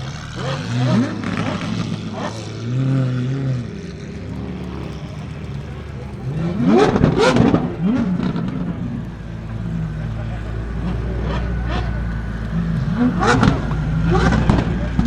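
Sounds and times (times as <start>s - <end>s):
supercar engines revving: 0.0s - 15.0s.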